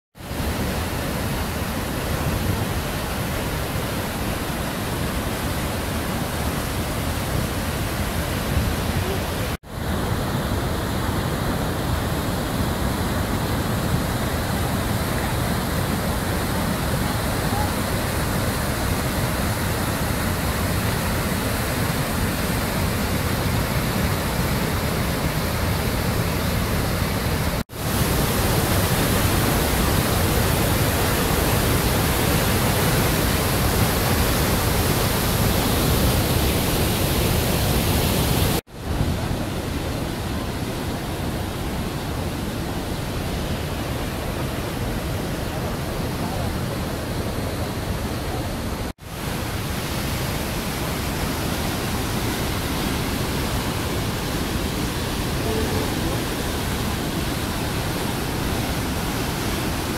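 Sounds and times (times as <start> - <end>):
white water rushing: 0.2 - 59.9.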